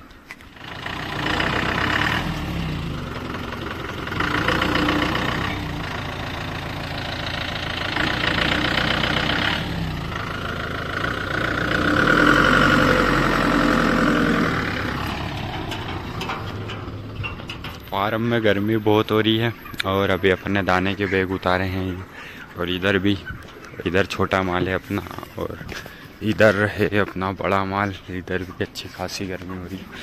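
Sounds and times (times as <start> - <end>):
truck engine revving: 0.4 - 25.6.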